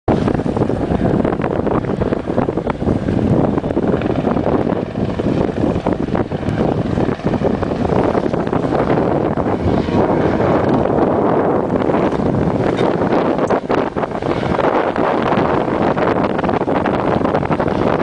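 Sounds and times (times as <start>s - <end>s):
continuous low rumble: 0.1s - 18.0s
wind buffeting microphone: 0.1s - 18.0s.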